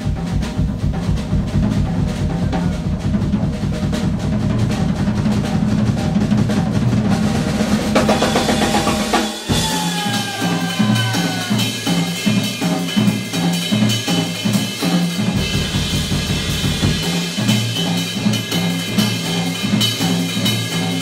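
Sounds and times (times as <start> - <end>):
jazz drum solo: 0.0 - 21.0.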